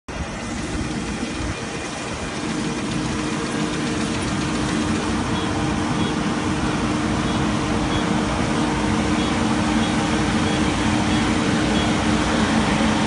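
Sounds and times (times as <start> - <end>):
combine harvester engine drone: 0.1 - 13.0.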